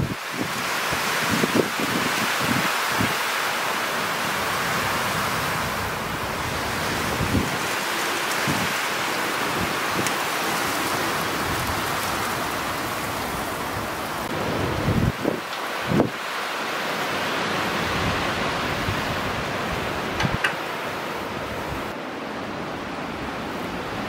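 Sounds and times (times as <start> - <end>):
wind gusts buffeting microphone: 0.0 - 24.0
wind through pine trees: 0.0 - 24.0.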